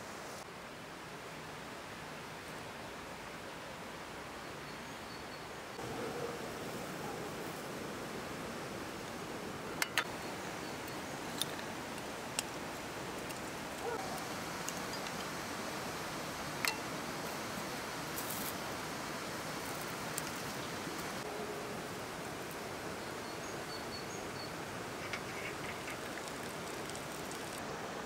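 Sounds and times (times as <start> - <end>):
steady outdoor hiss: 0.0 - 28.0.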